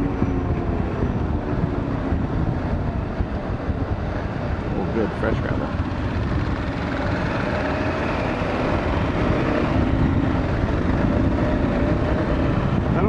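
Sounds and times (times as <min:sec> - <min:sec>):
motorcycle engine running: 0:00.0 - 0:13.0
wind rush: 0:00.0 - 0:13.0.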